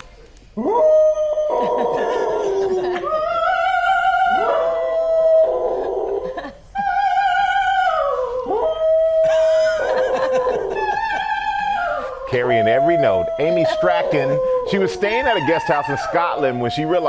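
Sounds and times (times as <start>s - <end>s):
dog howling: 0.6s - 17.0s.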